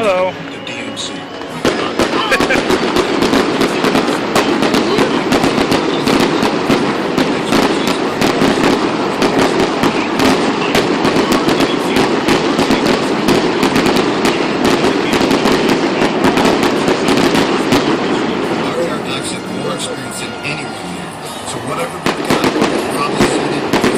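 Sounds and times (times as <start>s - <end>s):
fireworks crackling and popping: 0.0s - 23.9s.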